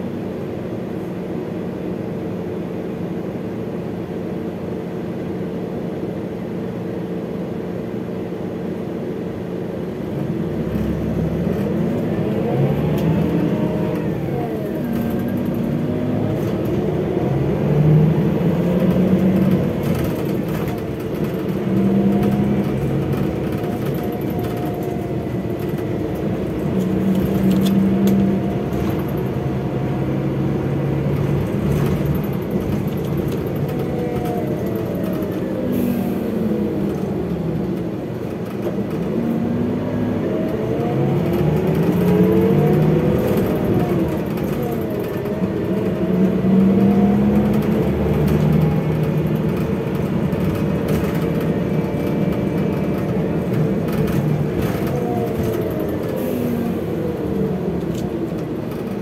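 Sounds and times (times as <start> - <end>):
bus diesel engine idling and accelerating: 0.0 - 59.0.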